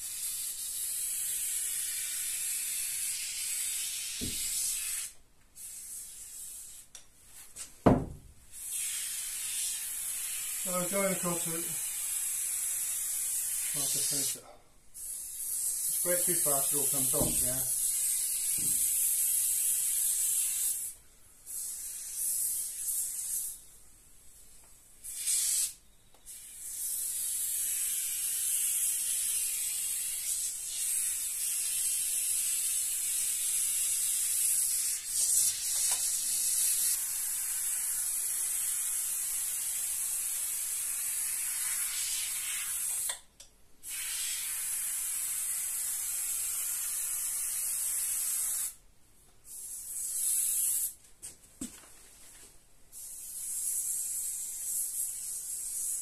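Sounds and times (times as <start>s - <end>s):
foam gun hissing: 0.0s - 6.9s, 7.9s - 23.6s, 25.0s - 43.2s, 43.8s - 48.8s, 49.5s - 51.0s, 53.0s - 56.0s.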